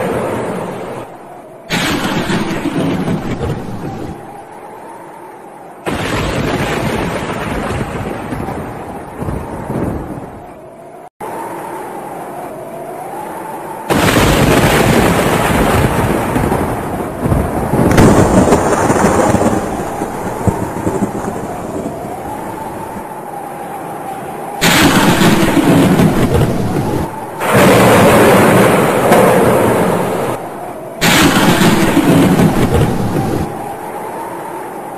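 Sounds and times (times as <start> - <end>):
strong wind buffeting microphone: 0.0 - 34.9.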